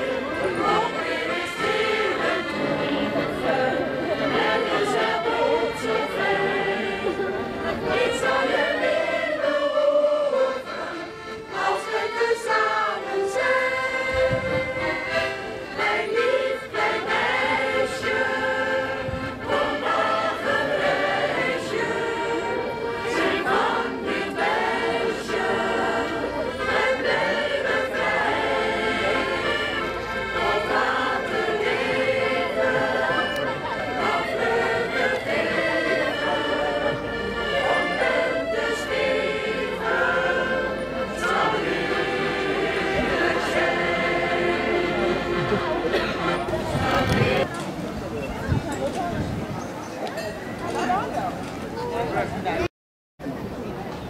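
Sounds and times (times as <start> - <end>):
mixed choir singing: 0.0 - 47.5
accordion: 0.0 - 52.7.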